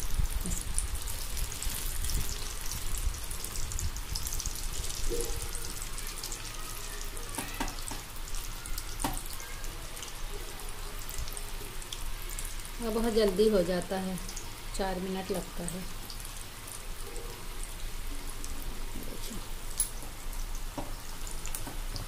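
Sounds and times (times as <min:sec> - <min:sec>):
oil bubbling and crackling: 0:00.0 - 0:22.0.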